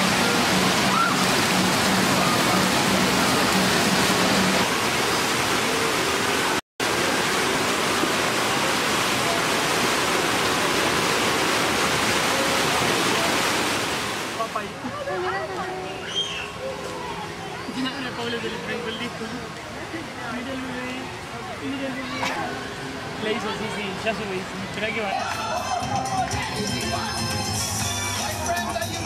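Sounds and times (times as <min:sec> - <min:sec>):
rushing white water: 0:00.0 - 0:29.0.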